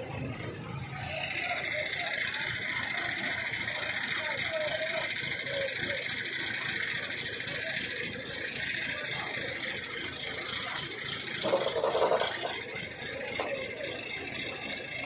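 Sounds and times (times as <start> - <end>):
heavy vehicle engine idling: 0.0 - 15.0
loud rough engine burst: 0.0 - 15.0.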